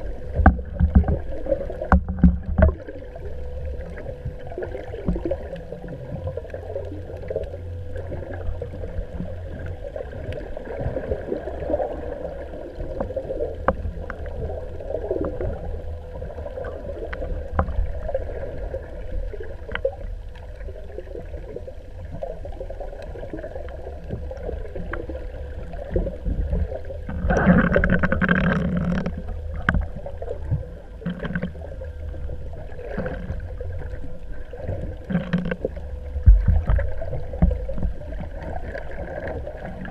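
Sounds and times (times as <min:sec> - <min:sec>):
steady low rumble: 0:00.0 - 0:39.9
water lapping against a boat: 0:00.0 - 0:39.9.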